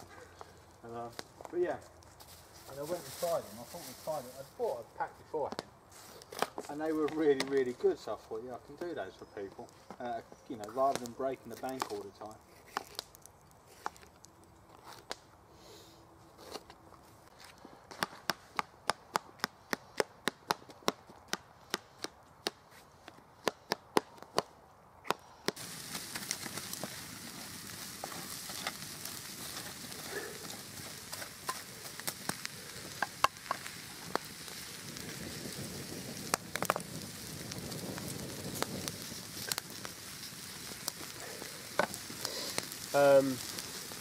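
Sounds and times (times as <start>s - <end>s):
campfire crackling and popping: 0.0s - 15.5s, 16.4s - 44.0s.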